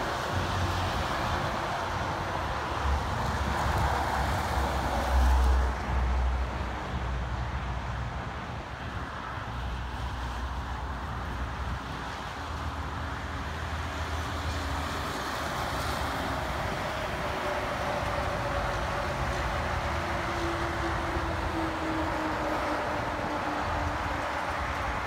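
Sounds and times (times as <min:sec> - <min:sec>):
steady traffic: 0:00.0 - 0:25.0.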